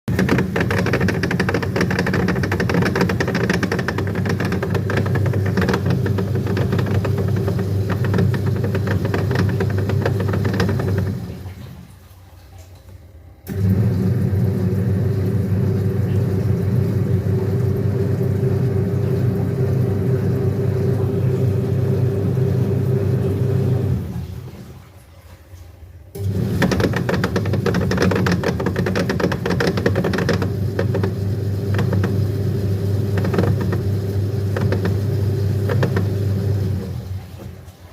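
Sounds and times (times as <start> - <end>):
washing machine motor grinding: 0.0 - 11.7, 13.4 - 24.8, 26.1 - 37.9.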